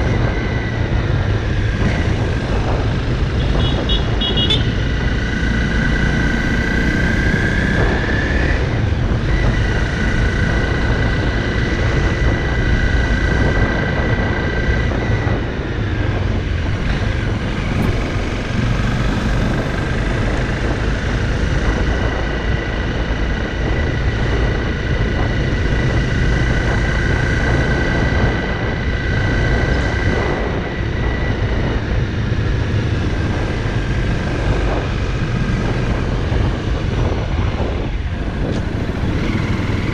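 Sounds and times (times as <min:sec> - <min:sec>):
motorcycle engine running: 0:00.0 - 0:39.9
road noise rumble: 0:00.0 - 0:39.9.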